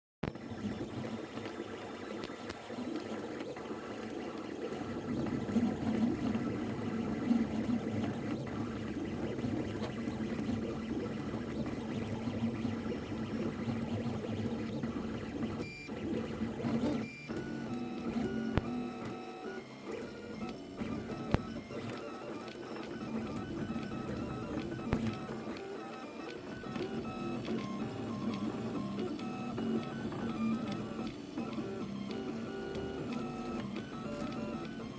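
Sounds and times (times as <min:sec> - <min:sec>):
printer stepper motors whining: 0:00.2 - 0:34.9.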